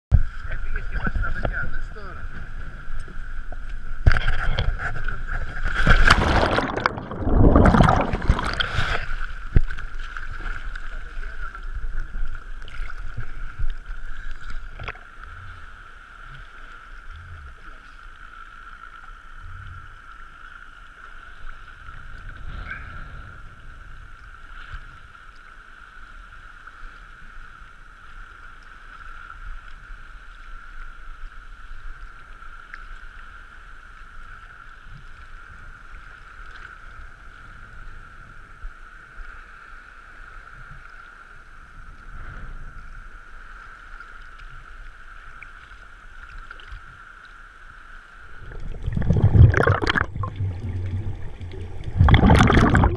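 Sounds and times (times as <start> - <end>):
low water swells: 0.2 - 52.9
sea water lapping and sloshing: 0.2 - 52.9.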